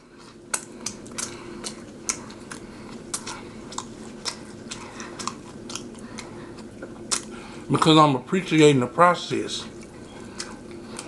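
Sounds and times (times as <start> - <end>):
person chewing: 0.0 - 7.7, 9.6 - 11.0
faint steady hum: 0.0 - 11.0.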